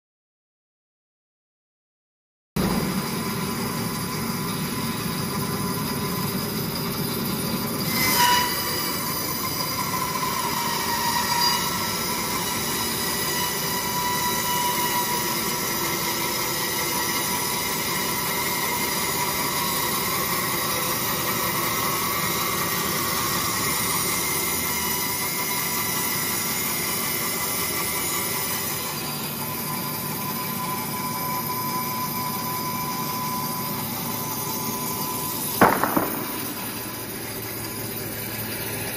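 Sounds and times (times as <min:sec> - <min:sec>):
sawmill cutting timber: 0:02.6 - 0:38.9.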